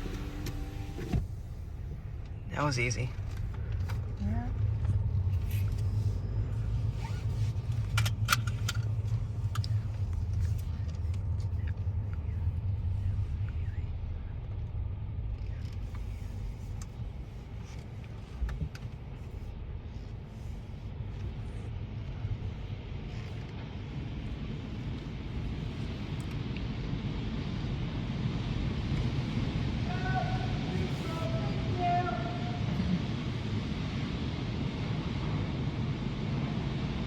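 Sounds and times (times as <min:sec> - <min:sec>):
car wash rumble: 0:00.0 - 0:37.0.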